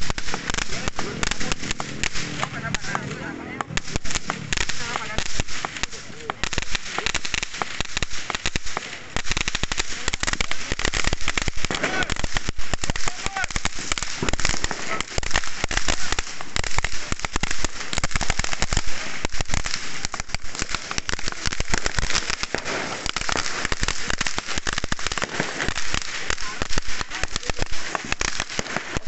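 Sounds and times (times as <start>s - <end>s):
fireworks and firecrackers banging: 0.0s - 29.0s.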